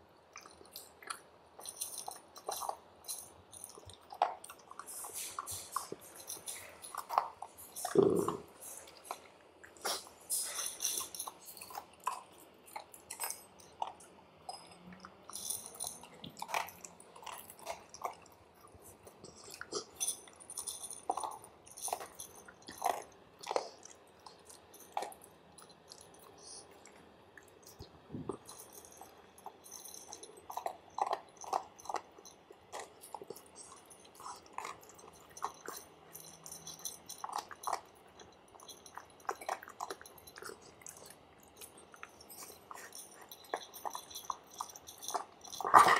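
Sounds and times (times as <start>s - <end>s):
pets crunching dry kibble: 0.3s - 45.9s.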